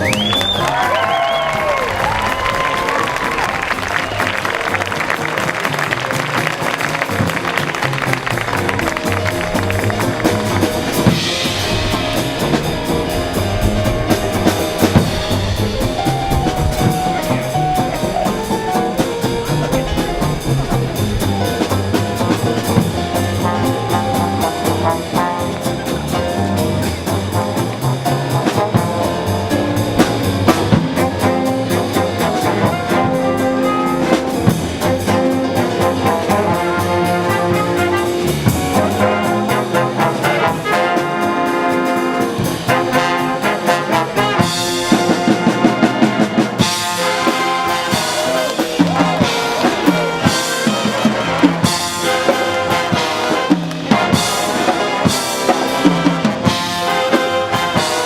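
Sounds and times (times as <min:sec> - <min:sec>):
jazz big band playing: 0:00.0 - 0:58.0.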